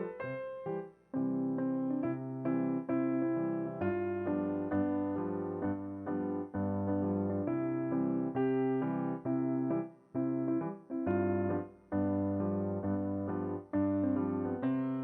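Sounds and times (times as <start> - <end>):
gentle piano playing: 0.0 - 15.0.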